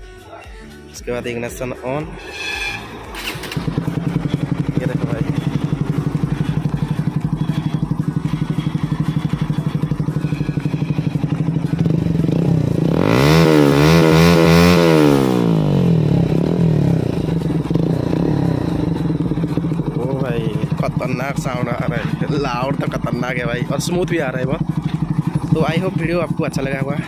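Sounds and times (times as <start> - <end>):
motorcycle engine idling and revving: 1.0 - 27.0.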